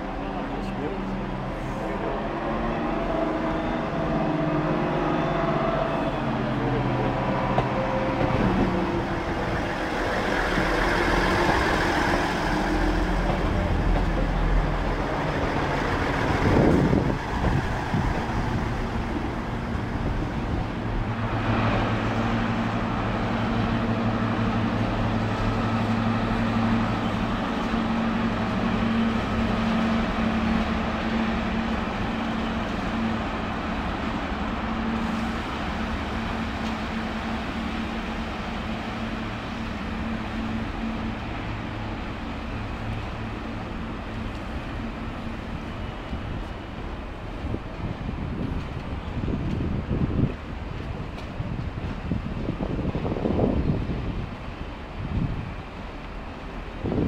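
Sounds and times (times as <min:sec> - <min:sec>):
diesel locomotive engines droning: 0:00.0 - 0:57.0
diesel train rushing past: 0:00.0 - 0:57.0
train coaches rumbling past: 0:00.0 - 0:57.0.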